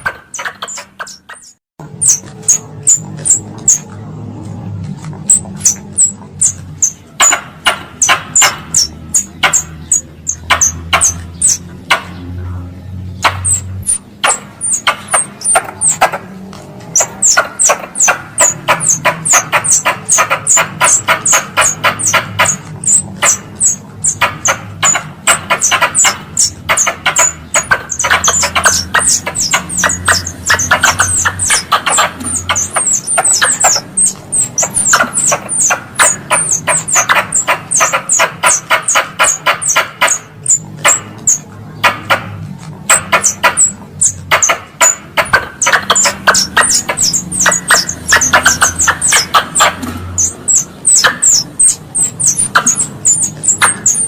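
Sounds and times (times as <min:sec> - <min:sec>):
squirrel chattering call: 0:00.0 - 0:03.9, 0:05.2 - 0:54.0.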